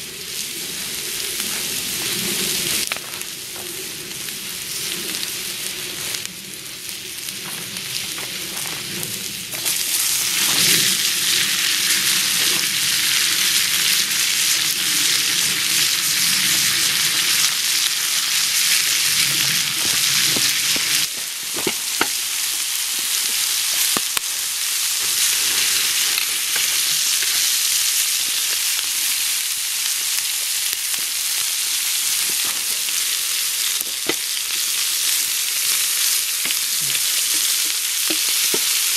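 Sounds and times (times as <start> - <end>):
food sizzling on a burner: 0.0 - 38.9.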